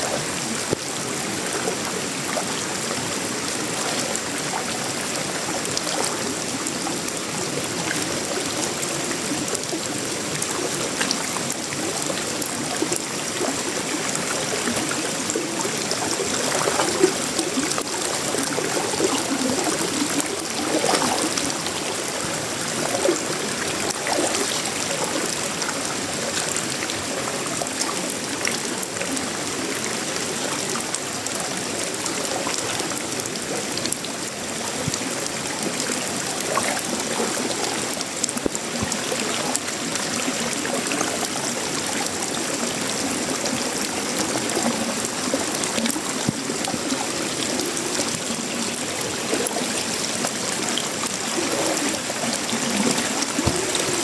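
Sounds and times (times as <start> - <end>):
rain on metal roof and leaves: 0.0 - 54.0.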